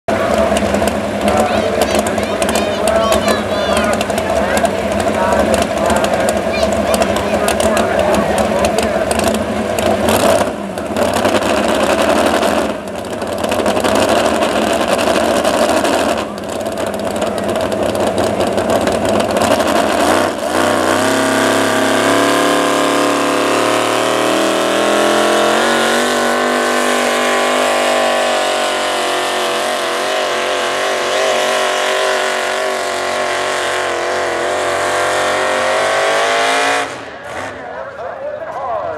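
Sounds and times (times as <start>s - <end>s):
truck engine revving: 0.1s - 38.9s.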